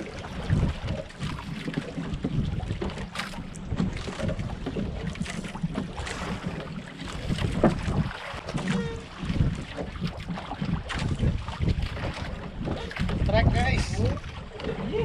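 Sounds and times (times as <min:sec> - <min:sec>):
water slapping against boat: 0:00.0 - 0:15.0
wind buffeting microphone: 0:00.0 - 0:15.0.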